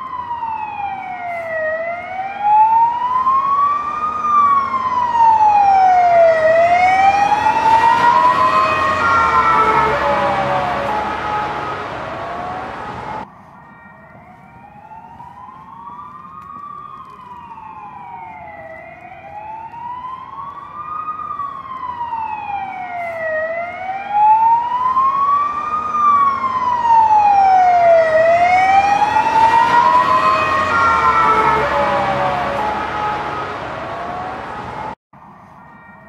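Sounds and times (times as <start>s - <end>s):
ambulance siren wailing: 0.0s - 36.0s.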